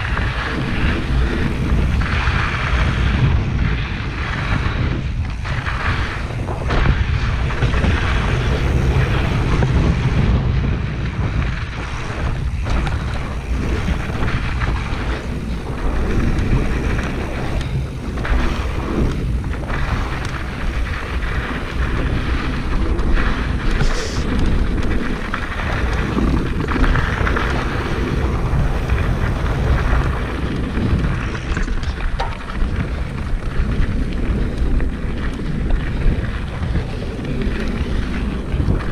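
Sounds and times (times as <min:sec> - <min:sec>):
bike frame and chain rattling: 0:00.0 - 0:38.9
tyres crunching over dirt: 0:00.0 - 0:38.9
wind buffeting microphone: 0:00.0 - 0:38.9.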